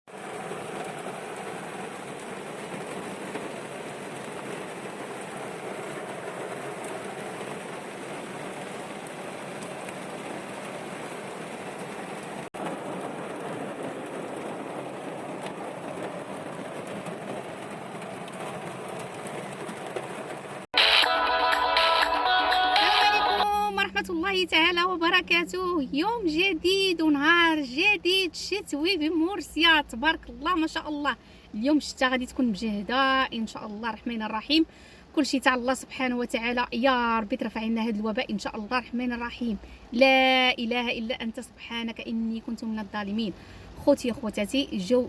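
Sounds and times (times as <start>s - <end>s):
steady rain falling: 0.1s - 45.0s.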